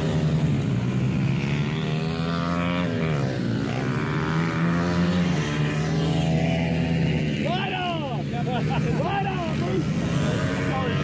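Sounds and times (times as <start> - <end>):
small bike engines buzzing: 0.0 - 11.0.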